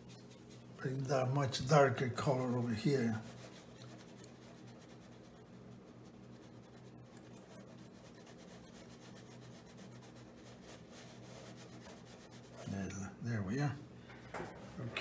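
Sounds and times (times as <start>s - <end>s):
brush stroking across paper: 0.0s - 13.0s
low steady hum: 0.0s - 15.0s.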